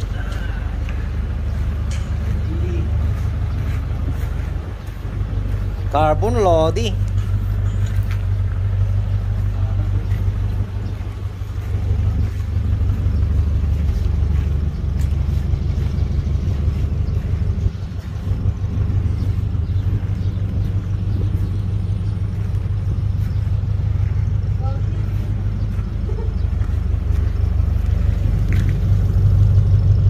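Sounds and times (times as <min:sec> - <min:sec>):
jeep engine idling: 0:00.0 - 0:30.0.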